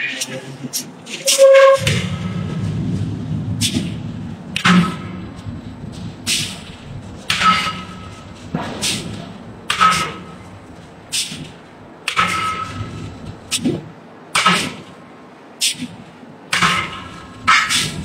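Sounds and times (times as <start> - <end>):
power hammer striking hot steel: 1.8 - 15.0, 15.6 - 18.0.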